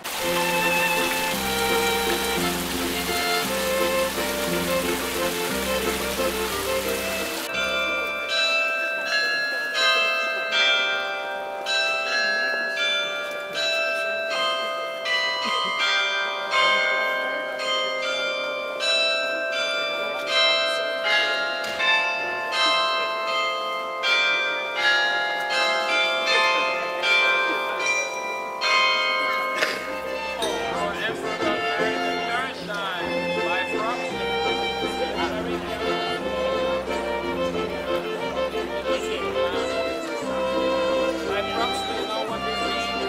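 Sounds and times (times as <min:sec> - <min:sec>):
church bells ringing: 0:00.0 - 0:43.0.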